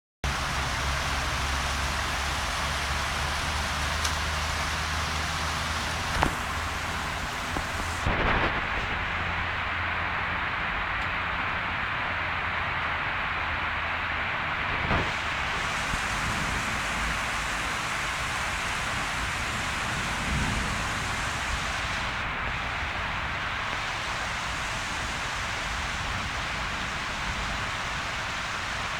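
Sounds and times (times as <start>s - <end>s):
rain hissing: 0.2s - 28.9s
low rumble: 0.3s - 23.8s.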